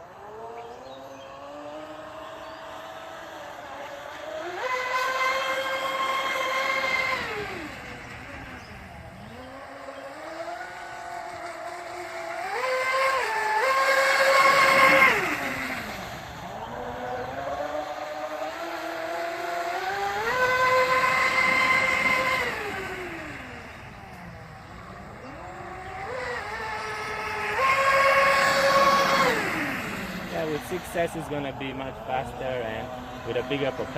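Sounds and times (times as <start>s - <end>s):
electric motor whine: 0.0s - 33.9s.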